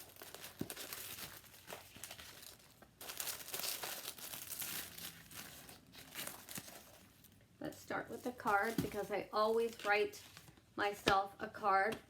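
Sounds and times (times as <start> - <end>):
paper packaging crinkling: 0.0 - 7.4, 8.1 - 10.5.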